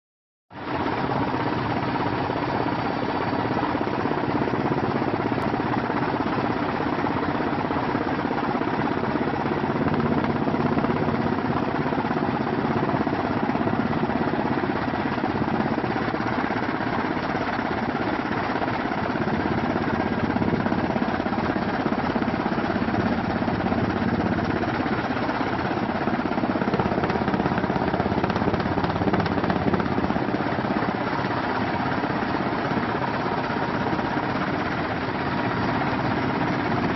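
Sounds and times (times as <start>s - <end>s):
faint steady whine: 0.6s - 36.9s
helicopter engine and rotor noise: 0.6s - 36.9s.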